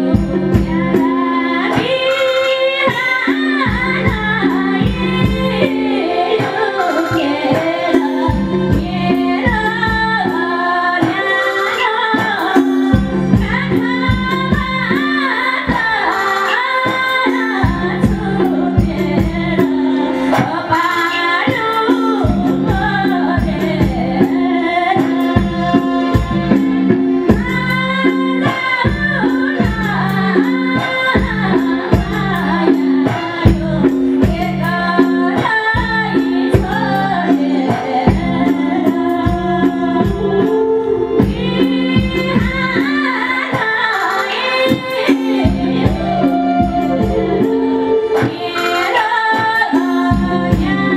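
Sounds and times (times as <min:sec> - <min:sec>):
steady percussion beat: 0:00.0 - 0:50.9
woman singing into microphone: 0:00.0 - 0:50.9.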